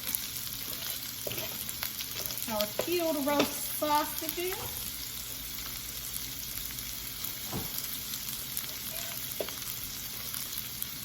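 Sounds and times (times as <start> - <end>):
sausage and onions sizzling in skillet: 0.0 - 11.0.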